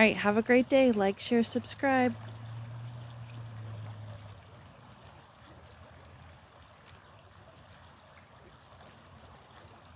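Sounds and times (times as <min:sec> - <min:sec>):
brook trickling: 0:00.0 - 0:09.9.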